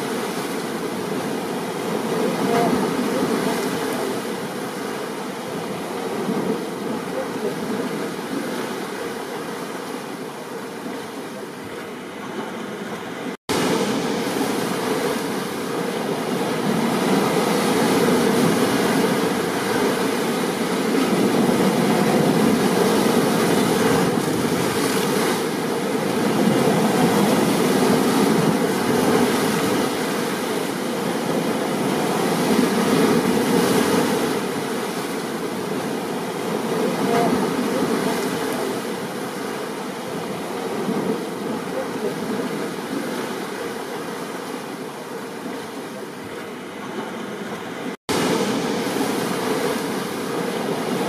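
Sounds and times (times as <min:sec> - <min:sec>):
ocean surf: 0:00.0 - 0:51.0.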